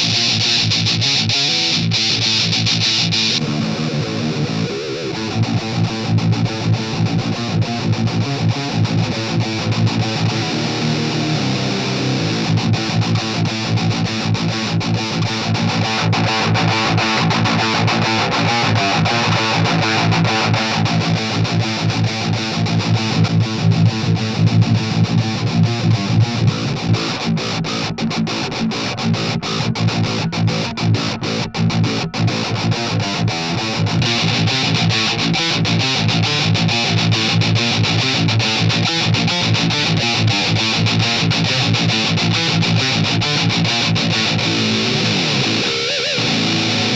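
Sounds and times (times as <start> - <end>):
distorted electric guitar riffing: 0.0 - 46.9.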